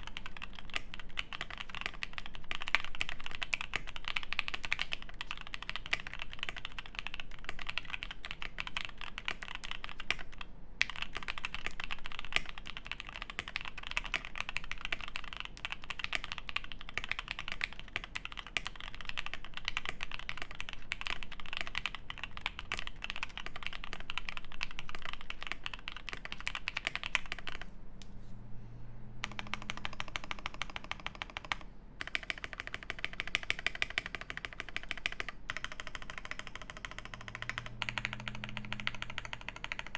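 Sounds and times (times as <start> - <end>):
typing on mechanical keyboard: 0.0 - 27.7, 29.2 - 39.9.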